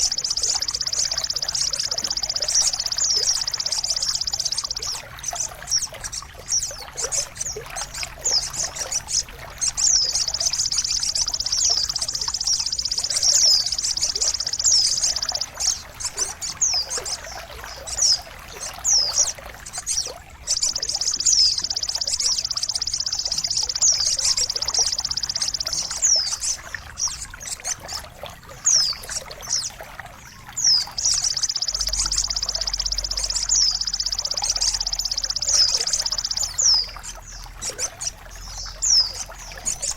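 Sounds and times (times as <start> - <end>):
songbird trilling and whistling: 0.0 - 39.9
water trickling and splashing: 0.0 - 39.9.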